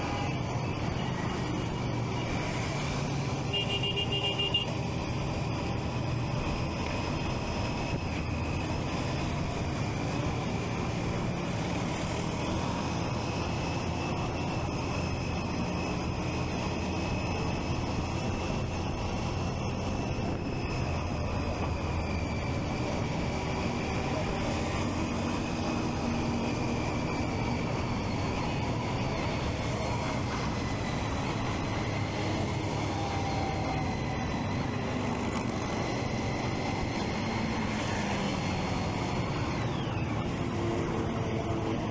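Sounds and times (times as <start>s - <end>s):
road and wind noise: 0.0s - 41.9s.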